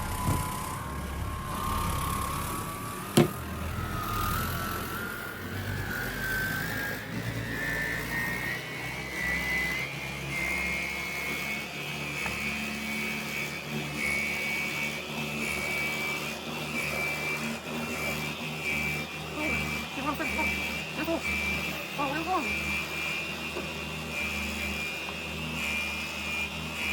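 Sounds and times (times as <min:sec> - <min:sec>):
carpet cleaner motor whine: 0:00.0 - 0:26.9.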